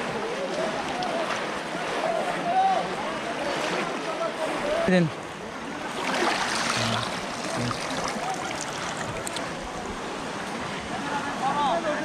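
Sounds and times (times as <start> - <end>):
muddy water sloshing and splashing: 0.0 - 10.6.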